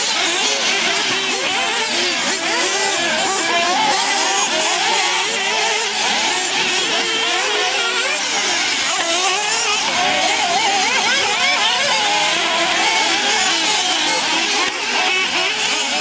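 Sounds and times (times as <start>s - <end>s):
small two-stroke engines revving: 0.0s - 16.0s.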